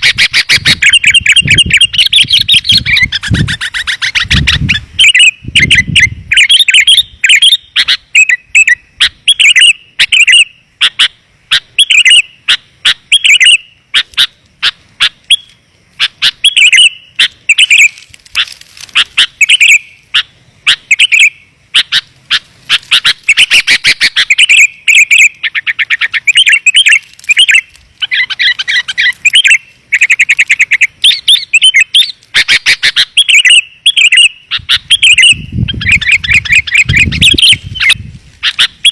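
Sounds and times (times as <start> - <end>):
bulbul chirping song: 0.0 - 38.9.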